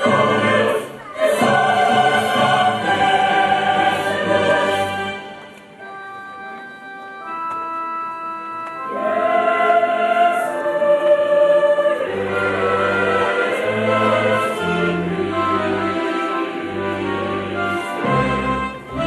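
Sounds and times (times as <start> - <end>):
church choir singing: 0.0 - 6.0, 8.6 - 19.0.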